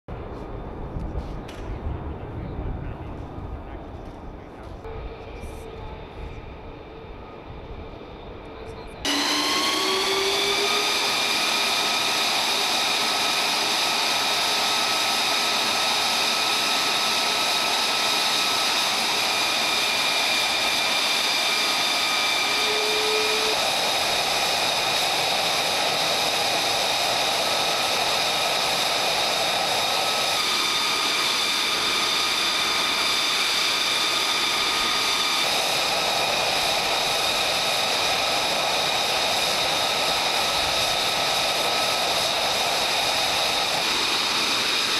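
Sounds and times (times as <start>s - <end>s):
jet engine whine and rush: 0.1s - 44.9s.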